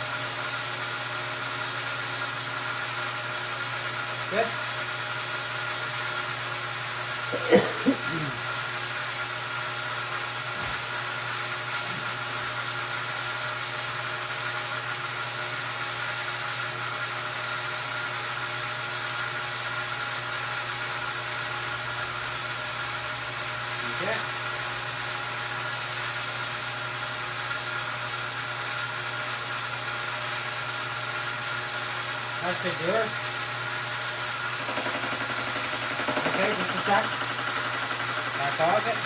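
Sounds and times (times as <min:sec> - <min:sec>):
lathe whining: 0:00.0 - 0:39.0.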